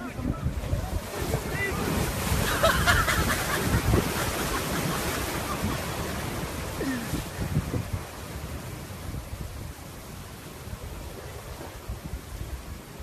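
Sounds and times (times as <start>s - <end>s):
heavy surf breaking on rocks: 0.0s - 13.0s
wind buffeting microphone: 0.0s - 13.0s.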